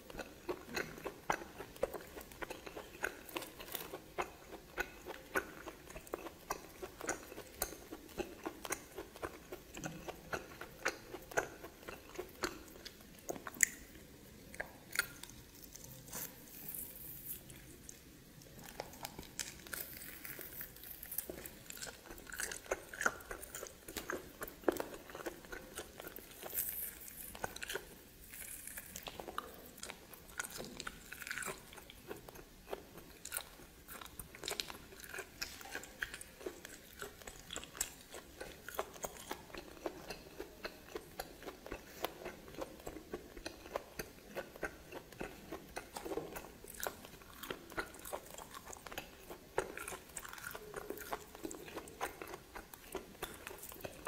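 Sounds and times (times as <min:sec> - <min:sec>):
person chewing with crunches: 0:00.0 - 0:54.0.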